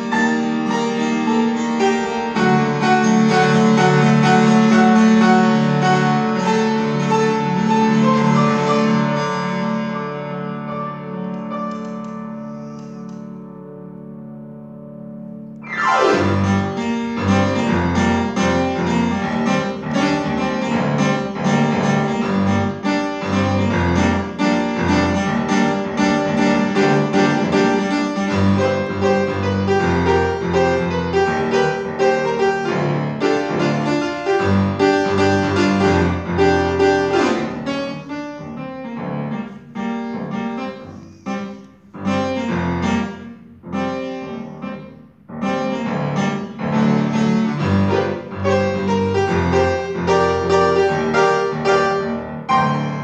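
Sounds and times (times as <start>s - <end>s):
upright piano playing a waltz: 0.0s - 53.0s.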